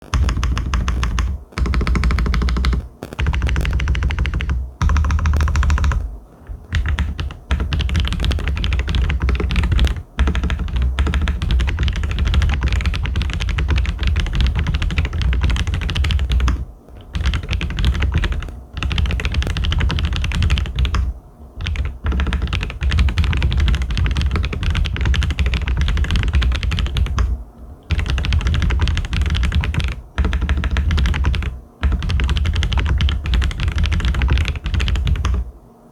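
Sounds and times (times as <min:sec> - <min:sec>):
fast typing on mechanical keyboard: 0:00.0 - 0:35.5.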